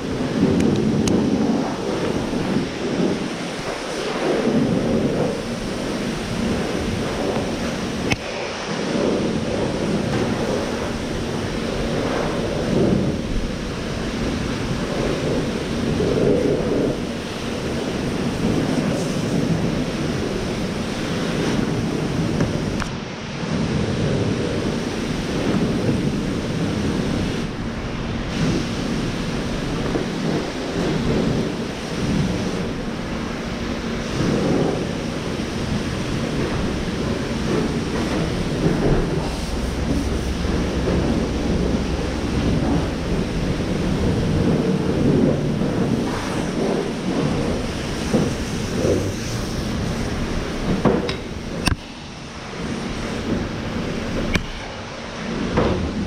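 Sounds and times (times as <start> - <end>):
pressure washer spraying water: 0.0 - 22.8, 23.5 - 56.0.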